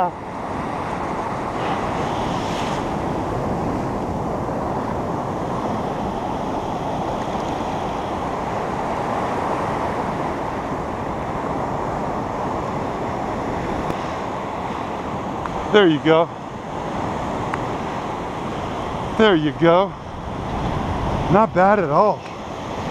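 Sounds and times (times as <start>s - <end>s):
ocean surf breaking on beach: 0.0s - 22.9s.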